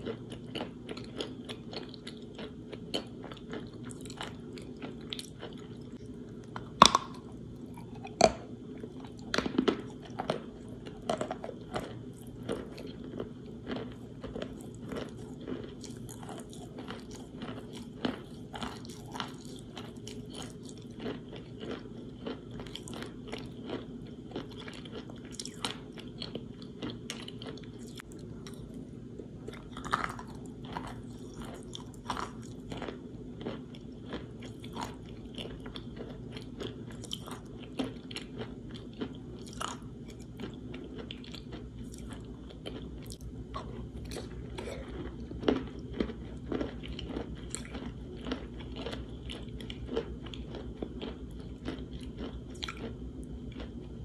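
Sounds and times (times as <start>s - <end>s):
moist crunchy chewing: 0.0s - 54.0s.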